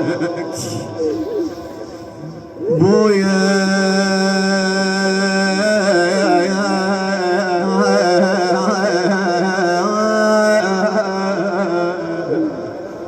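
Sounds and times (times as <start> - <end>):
man singing wordless lament: 0.0 - 13.0.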